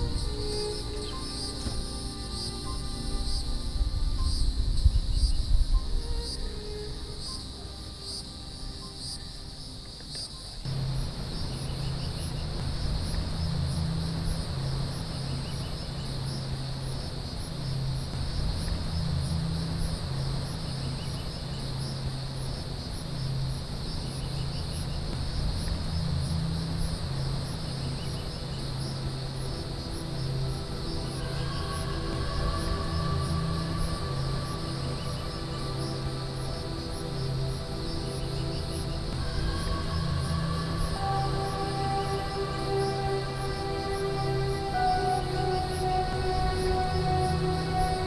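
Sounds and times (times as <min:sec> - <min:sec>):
insect chorus trilling: 0:00.0 - 0:48.0
low music drone: 0:00.0 - 0:48.0.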